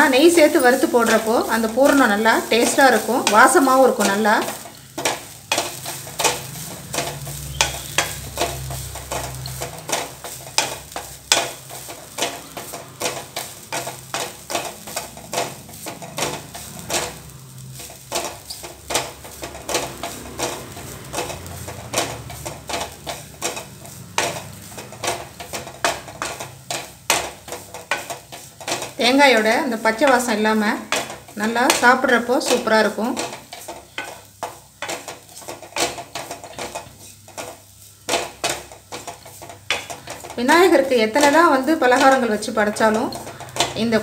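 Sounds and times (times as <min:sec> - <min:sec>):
light sizzle: 0:00.0 - 0:44.0
spatula scraping steel pan: 0:00.0 - 0:44.0.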